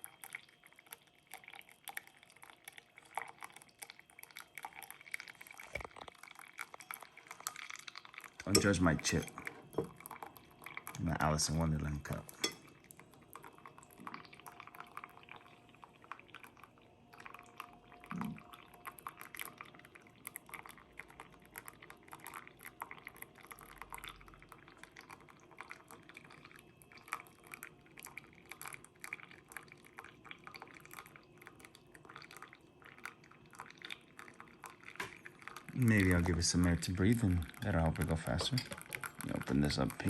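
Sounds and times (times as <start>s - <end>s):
coffee trickling and dripping: 0.0s - 40.0s.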